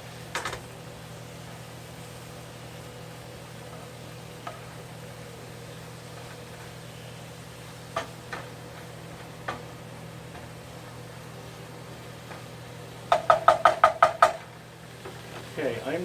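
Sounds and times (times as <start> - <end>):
low hum with faint hiss: 0.0 - 16.0.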